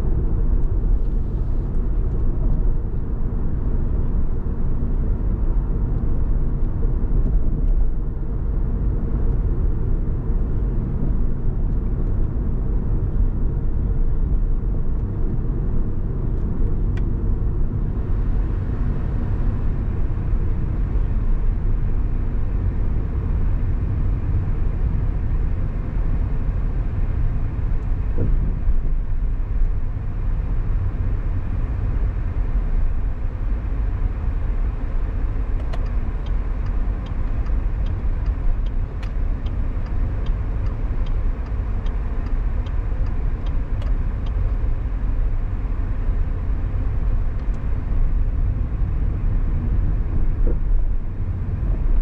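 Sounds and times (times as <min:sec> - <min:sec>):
road and engine rumble: 0:00.0 - 0:52.0.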